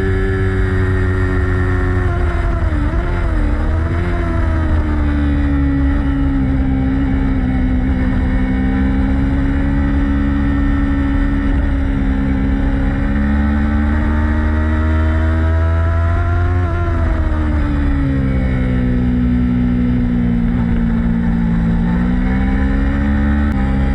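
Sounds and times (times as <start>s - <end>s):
motorcycle engine at high revs: 0.0s - 23.9s.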